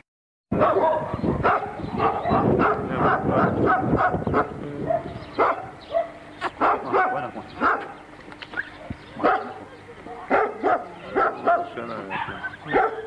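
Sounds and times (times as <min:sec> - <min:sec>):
dog barking: 0:00.6 - 0:08.0, 0:09.2 - 0:09.7, 0:10.3 - 0:13.0.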